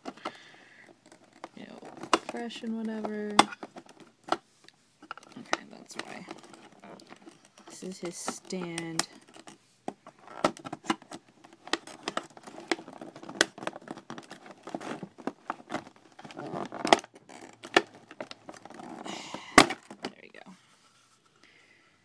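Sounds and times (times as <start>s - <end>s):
packaging rustling: 0.0s - 4.4s, 5.0s - 21.4s.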